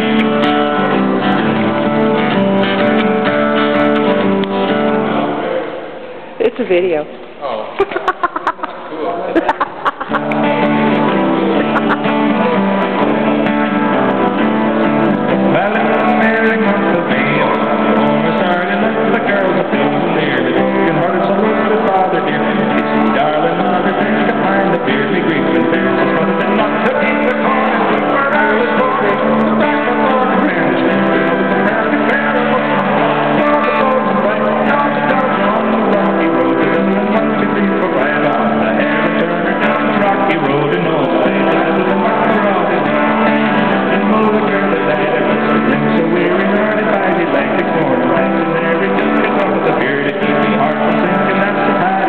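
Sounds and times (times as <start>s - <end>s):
acoustic guitar strumming: 0.0s - 6.7s, 9.4s - 52.0s.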